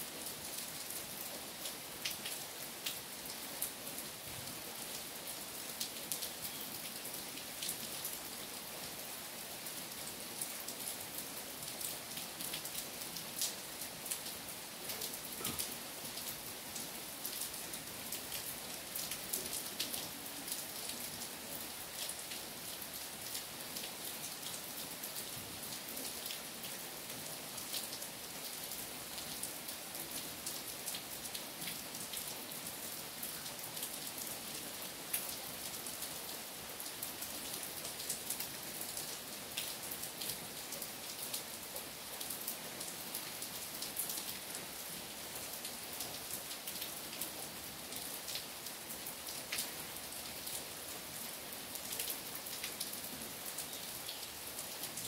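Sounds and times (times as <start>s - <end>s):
rain hissing through trees: 0.0s - 55.0s.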